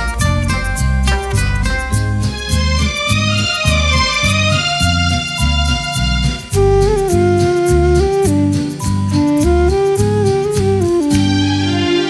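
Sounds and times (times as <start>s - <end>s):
bass line: 0.0s - 12.0s
keyboards: 0.0s - 12.0s
sustained melody: 0.0s - 12.0s.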